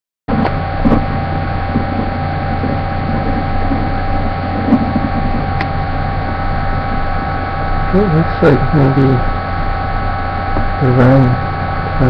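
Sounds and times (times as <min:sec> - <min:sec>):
constant mid-pitched tone: 0:00.3 - 0:12.0
steady hum and hiss: 0:00.3 - 0:12.0.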